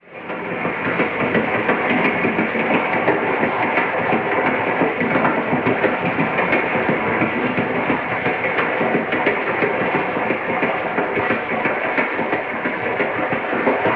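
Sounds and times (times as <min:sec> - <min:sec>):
train wheels rattling: 0:00.0 - 0:13.9.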